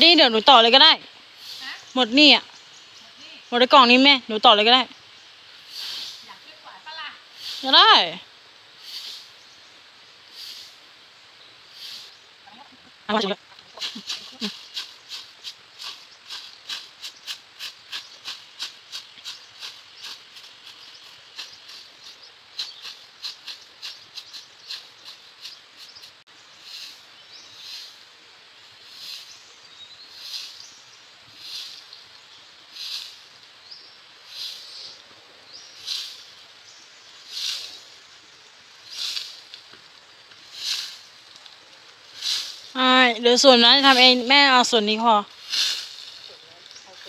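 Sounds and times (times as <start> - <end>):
broom sweeping leaves on asphalt: 0.0 - 47.0.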